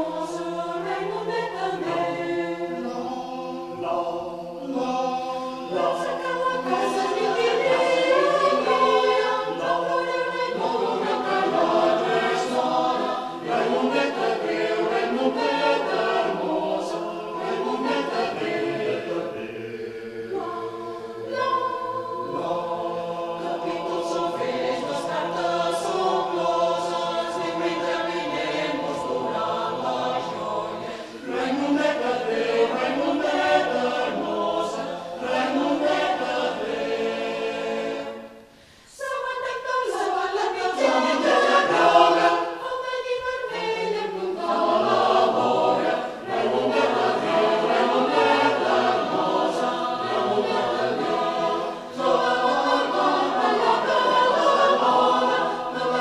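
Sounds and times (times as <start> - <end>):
mixed choir singing a cappella: 0.0 - 56.0.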